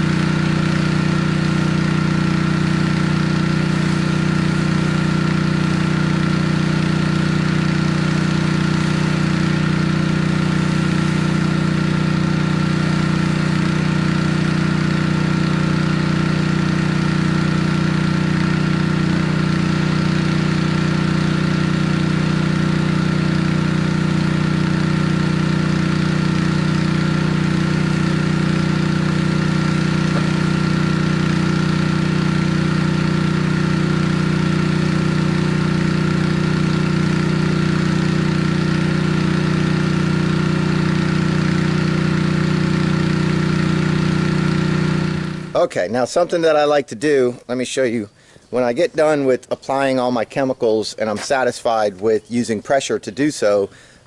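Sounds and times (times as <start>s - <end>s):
pressure washer engine running: 0.0s - 47.3s, 48.2s - 54.0s.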